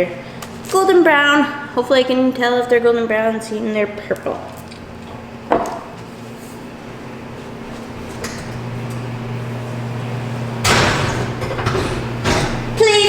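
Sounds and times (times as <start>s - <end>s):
low appliance hum: 0.0s - 13.0s.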